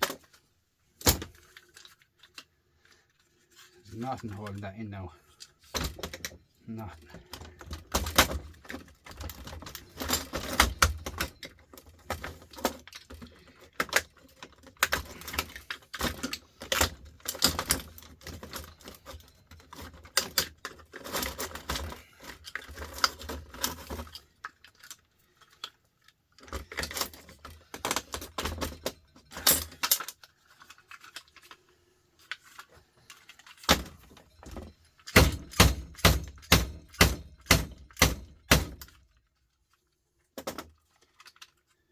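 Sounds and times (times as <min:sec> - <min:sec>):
hand tools and parts clattering: 0:00.0 - 0:41.9.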